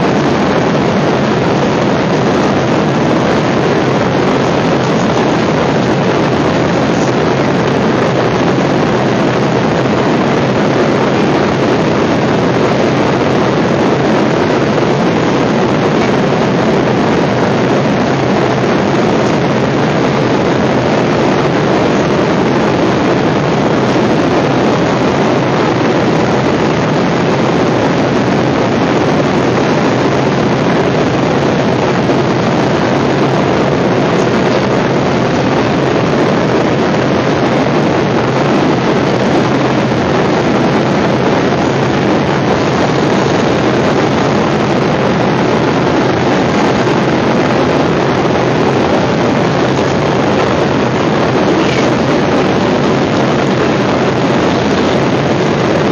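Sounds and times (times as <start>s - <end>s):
airliner cabin noise: 0.0s - 55.9s.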